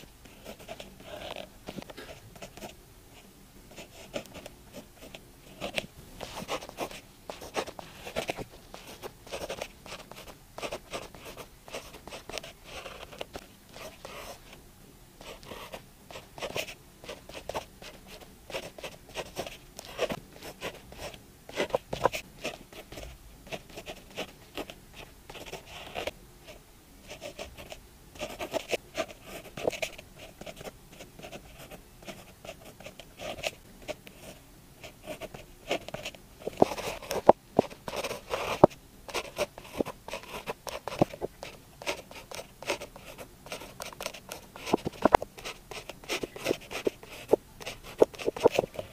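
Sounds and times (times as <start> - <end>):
pen scratching on paper: 0.0 - 2.8, 3.7 - 14.6, 15.2 - 48.9.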